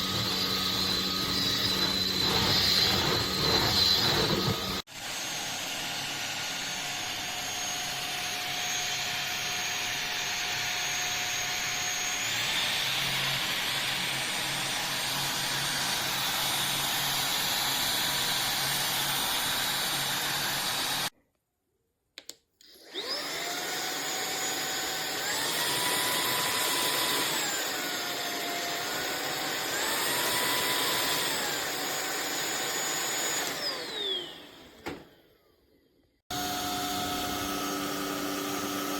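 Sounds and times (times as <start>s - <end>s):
stick vacuum motor whine: 0.0s - 21.1s, 22.6s - 35.2s, 36.3s - 38.9s.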